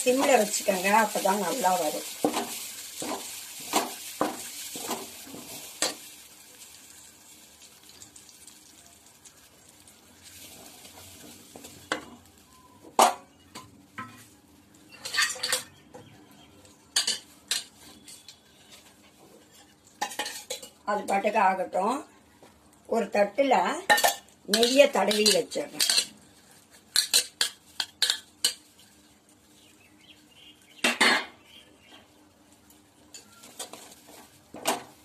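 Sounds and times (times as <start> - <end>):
faint sizzle: 0.0 - 35.0.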